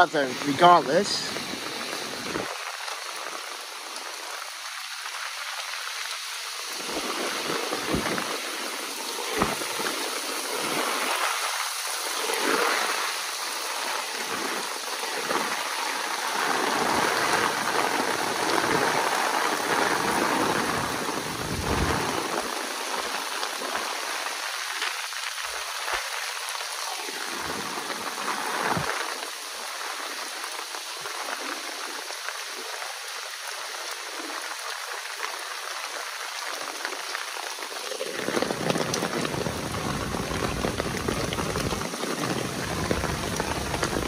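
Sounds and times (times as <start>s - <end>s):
heavy rain downpour: 0.0s - 44.0s.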